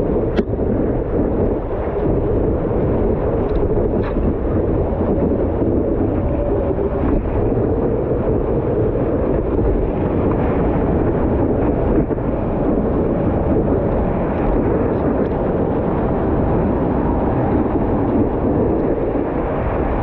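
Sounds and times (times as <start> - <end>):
water rushing along board: 0.0 - 20.0
wind buffeting microphone: 0.0 - 20.0.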